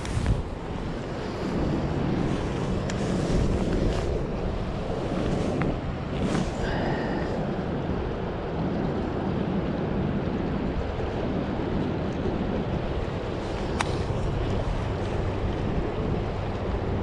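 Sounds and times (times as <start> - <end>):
waves washing on rocks: 0.0 - 17.0
wind buffeting microphone: 0.0 - 17.0.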